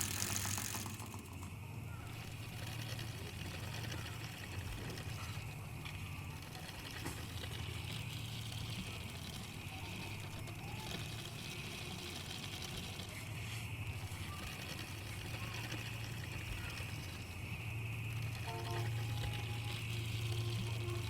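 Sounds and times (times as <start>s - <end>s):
bicycle tyres rolling: 0.0s - 21.0s.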